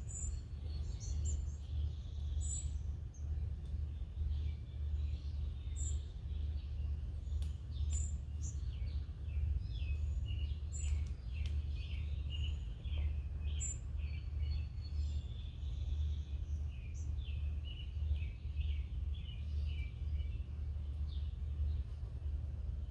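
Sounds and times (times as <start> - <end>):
low background rumble: 0.0 - 22.9
songbirds chirping: 0.0 - 22.9.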